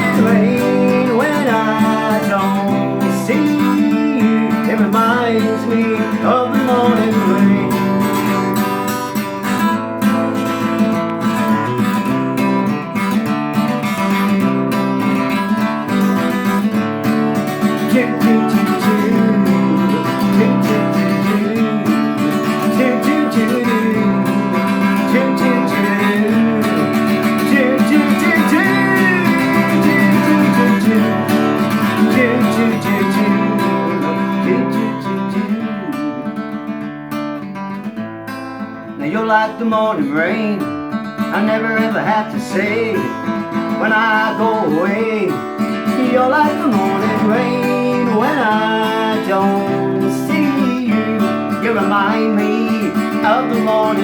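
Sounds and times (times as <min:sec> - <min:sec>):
person singing: 0:00.0 - 0:09.4, 0:10.1 - 0:36.8, 0:38.8 - 0:54.0
acoustic guitar strumming: 0:00.0 - 0:54.0.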